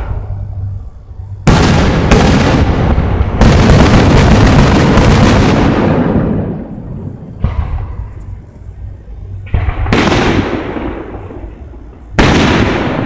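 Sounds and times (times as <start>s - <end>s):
fireworks booming with rumble: 0.0s - 13.0s.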